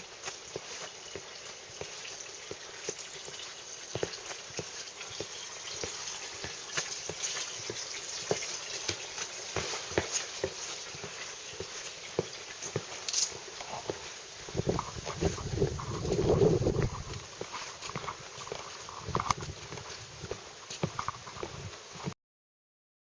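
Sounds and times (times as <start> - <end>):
footsteps walking: 0.0 - 22.2.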